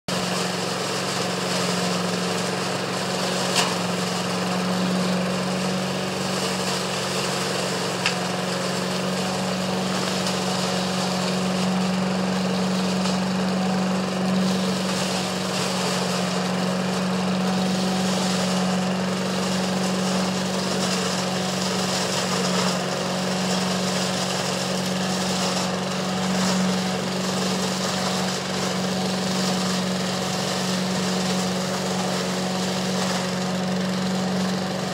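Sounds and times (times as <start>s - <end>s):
leaf vacuum blower humming: 0.0s - 34.9s.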